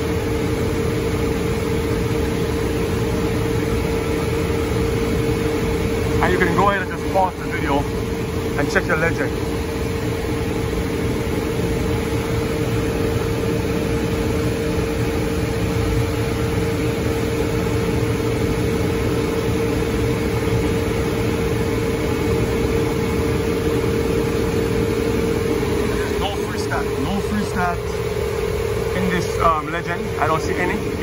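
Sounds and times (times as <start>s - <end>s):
air conditioning unit drone: 0.0s - 31.0s.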